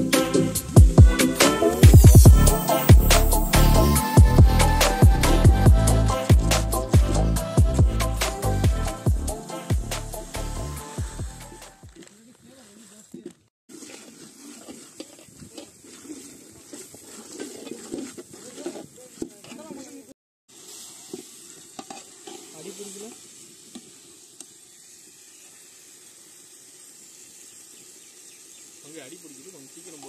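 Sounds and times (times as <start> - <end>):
food sizzling in a pot: 0.0 - 7.2, 11.6 - 30.0.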